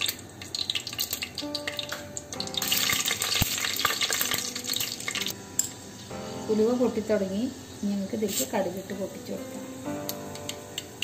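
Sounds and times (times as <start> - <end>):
seeds frying and crackling in oil: 0.0 - 11.0.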